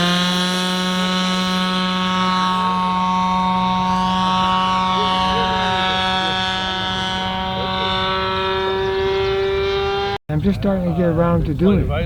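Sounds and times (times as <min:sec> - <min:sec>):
model airplane engine buzzing: 0:00.0 - 0:10.2.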